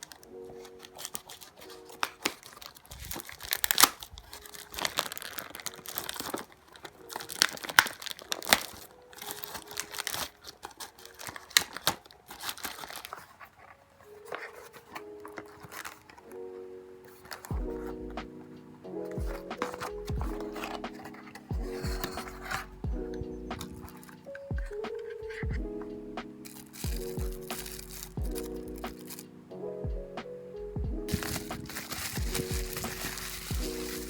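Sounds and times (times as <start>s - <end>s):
packaging being torn and crinkled: 0.0s - 18.4s, 19.4s - 21.5s, 23.6s - 25.4s, 26.2s - 29.3s, 31.1s - 34.0s
quiet background music: 0.0s - 34.0s.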